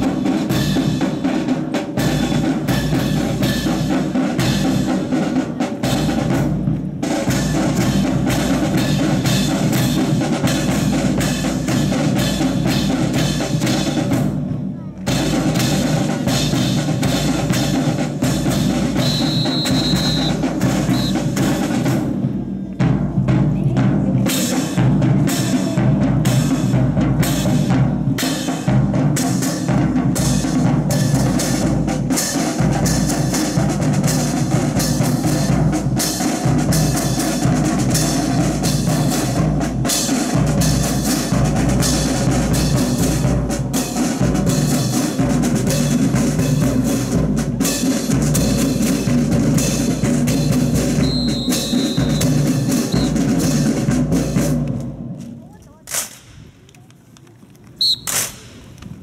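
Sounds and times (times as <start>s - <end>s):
marching drums beating: 0.0s - 56.4s.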